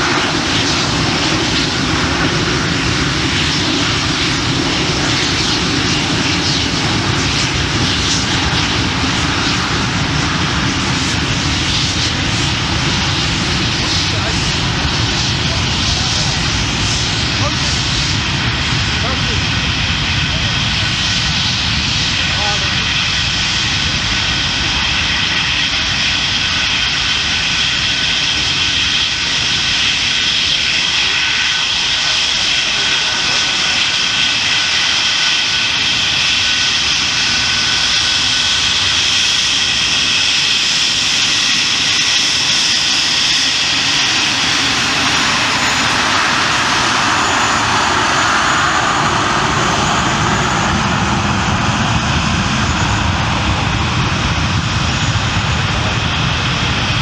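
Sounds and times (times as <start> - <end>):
high jet whine: 0.0 - 57.0
jet engine noise: 0.0 - 57.0.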